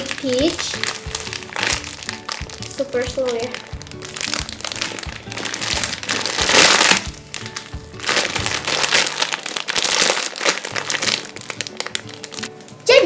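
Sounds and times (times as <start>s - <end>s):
background music: 0.0s - 13.0s
foam toy crackly squishing: 0.0s - 13.0s.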